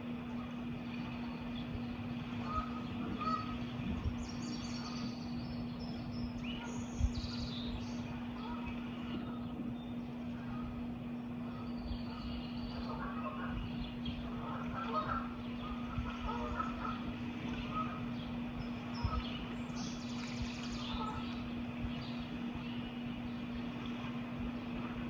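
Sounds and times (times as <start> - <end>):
background hum: 0.0 - 25.0
birds chirping and calling: 0.4 - 23.7.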